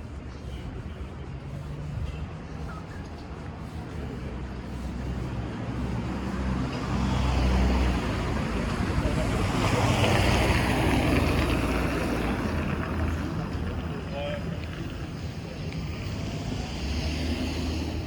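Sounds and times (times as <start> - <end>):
tyre noise on road: 0.0 - 18.0
vehicle engine rumble passing: 0.0 - 18.0.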